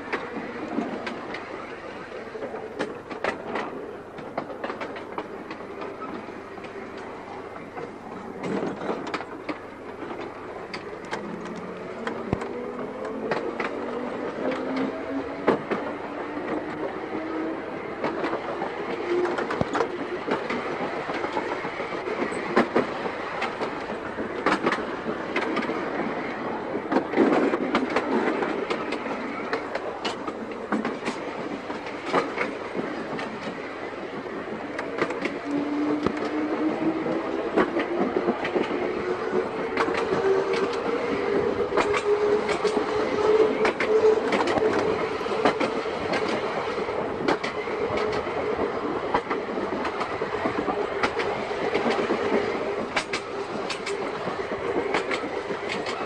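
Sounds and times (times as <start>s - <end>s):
tram wheels clicking over rail joints: 0.0s - 56.0s.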